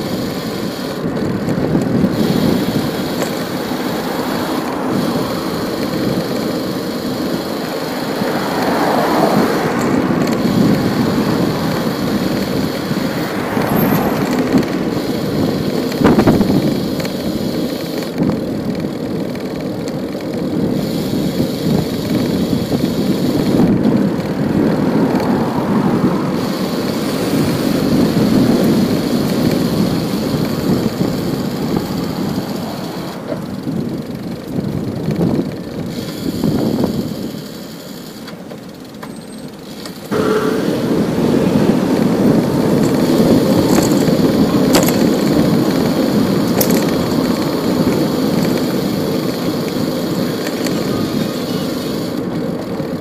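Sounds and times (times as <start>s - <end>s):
city traffic rushing: 0.0s - 53.0s.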